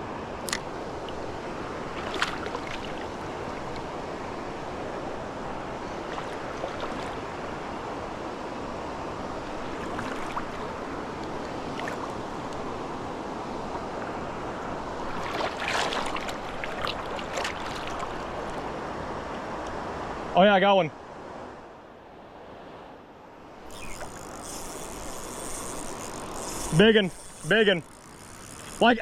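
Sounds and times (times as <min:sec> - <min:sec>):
creek water over rocks: 0:00.0 - 0:20.2, 0:23.6 - 0:29.0.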